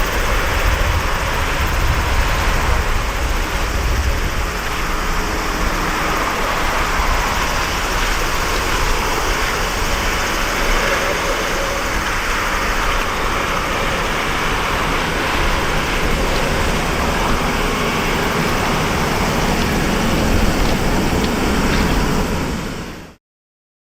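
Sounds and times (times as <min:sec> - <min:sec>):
jet engine roar: 0:00.0 - 0:23.2.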